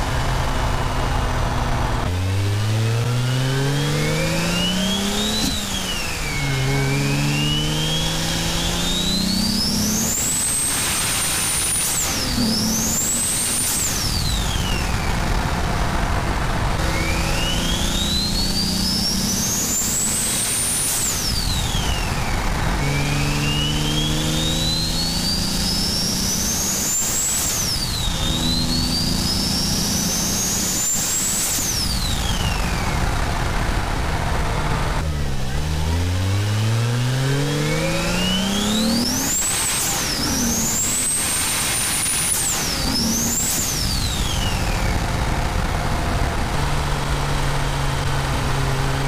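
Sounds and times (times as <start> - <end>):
car engine drone: 0.0 - 49.0.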